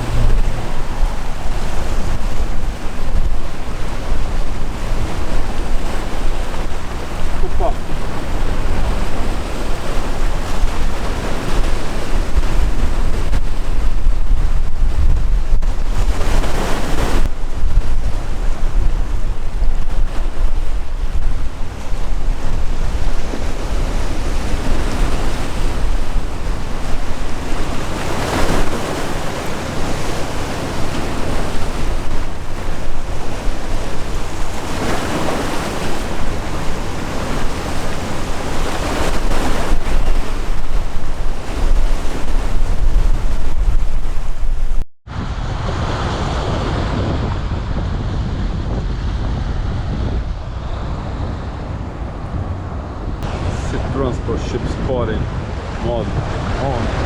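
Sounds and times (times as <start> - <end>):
sea waves breaking: 0.0 - 57.0
wind rumbling on microphone: 0.0 - 57.0.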